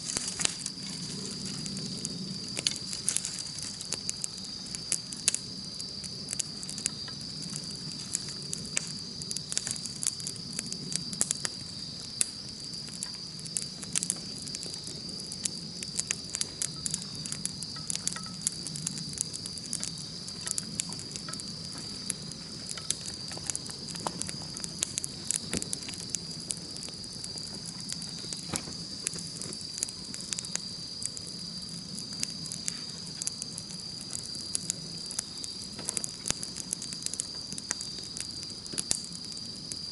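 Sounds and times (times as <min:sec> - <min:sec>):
campfire crackling: 0:00.0 - 0:39.9
high-pitched insect trill: 0:00.0 - 0:39.9.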